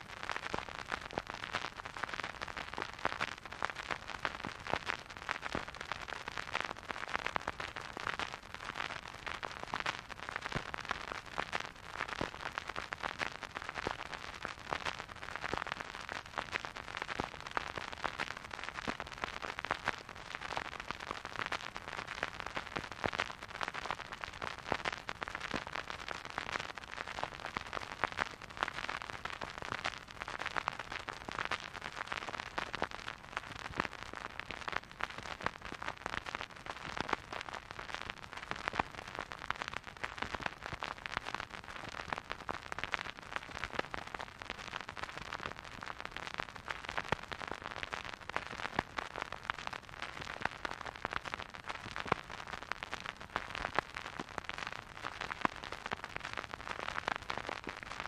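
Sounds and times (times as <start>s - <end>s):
vinyl record crackle: 0.0s - 58.0s.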